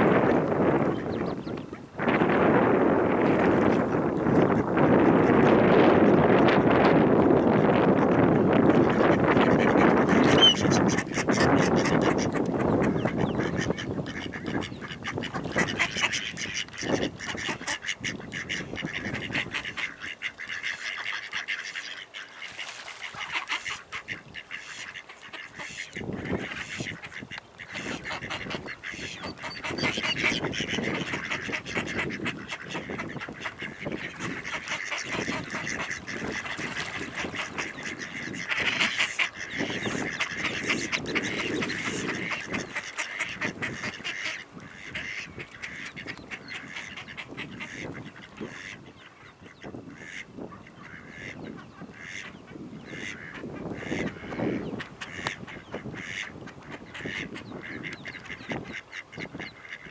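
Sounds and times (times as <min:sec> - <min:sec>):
ducks quacking: 0:00.0 - 0:59.9.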